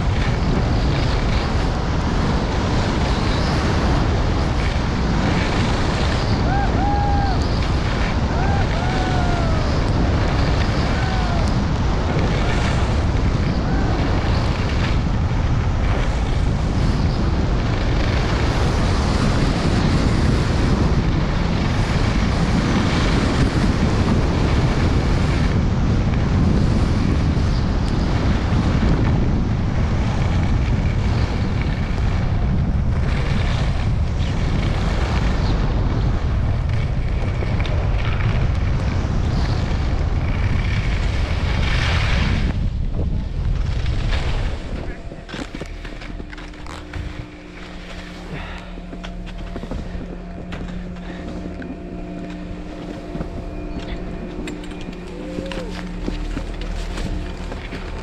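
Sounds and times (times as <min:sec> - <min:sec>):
skis sliding over snow: 0:00.0 - 0:58.0
wind buffeting microphone: 0:00.0 - 0:58.0.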